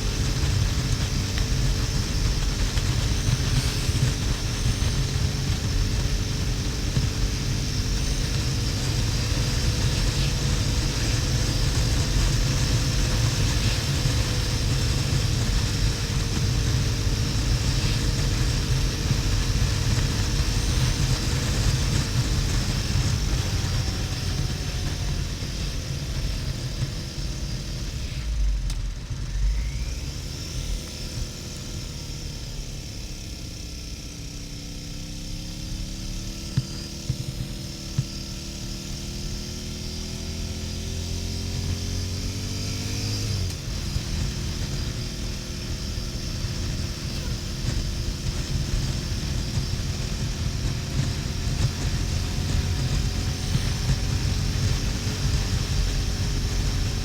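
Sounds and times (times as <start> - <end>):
wind rumble on microphone: 0.0 - 31.4, 39.3 - 57.0
motorcycle engine running: 0.0 - 57.0.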